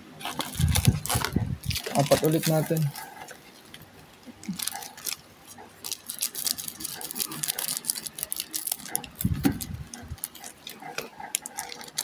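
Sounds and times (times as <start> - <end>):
foil pack crinkling: 0.2 - 3.8, 4.4 - 12.0.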